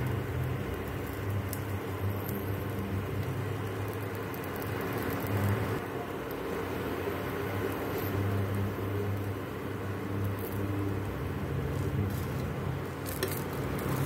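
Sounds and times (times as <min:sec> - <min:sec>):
induction cooktop hum and fan: 0:00.0 - 0:14.0.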